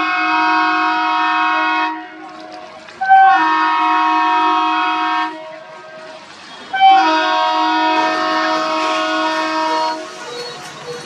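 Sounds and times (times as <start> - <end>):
diesel locomotive horn blasts: 0.0 - 10.8
train running noise: 0.0 - 11.0.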